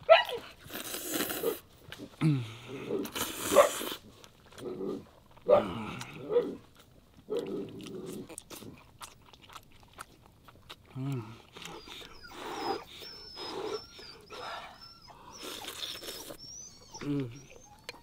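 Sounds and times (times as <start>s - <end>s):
wet chewing clicks: 0.0s - 18.0s
noodles being slurped: 0.5s - 13.9s, 15.4s - 16.4s.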